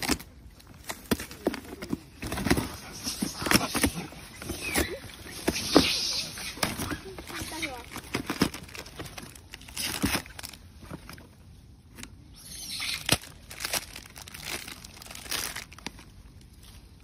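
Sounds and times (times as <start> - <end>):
plastic wrapper crinkling: 0.0 - 11.4, 12.7 - 17.0.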